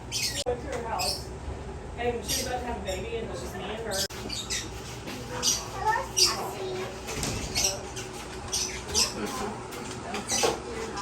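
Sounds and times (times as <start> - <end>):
birds chirping and squawking: 0.0 - 1.4, 2.1 - 11.0.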